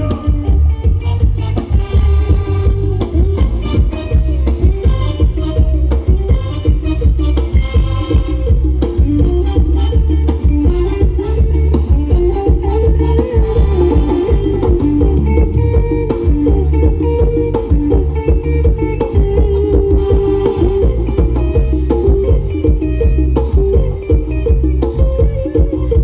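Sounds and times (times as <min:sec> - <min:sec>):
drum kit: 0:00.0 - 0:26.0
heavy bass: 0:00.0 - 0:26.0
live band music: 0:00.0 - 0:26.0.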